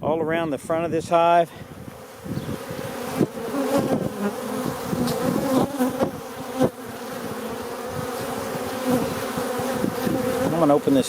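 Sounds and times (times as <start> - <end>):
bees buzzing: 1.7 - 11.0.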